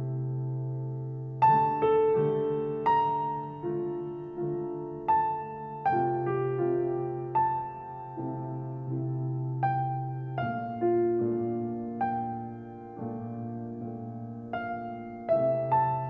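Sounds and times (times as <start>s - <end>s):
slow quiet piano music: 0.0s - 16.0s.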